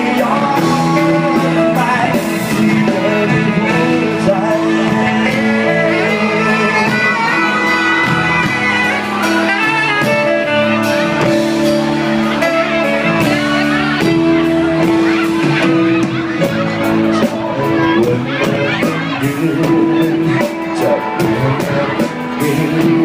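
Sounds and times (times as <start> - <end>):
live band playing pop ballad: 0.0 - 23.0.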